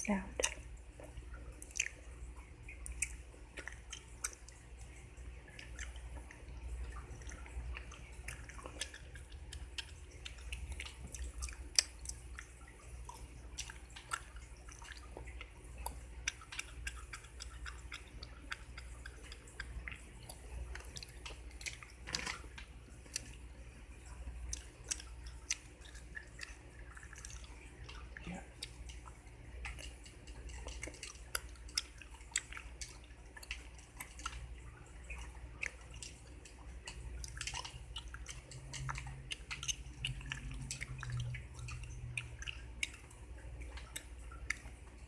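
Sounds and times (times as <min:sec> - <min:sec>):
low steady hum: 0:00.0 - 0:45.0
gum chewing smacks and clicks: 0:00.3 - 0:45.0.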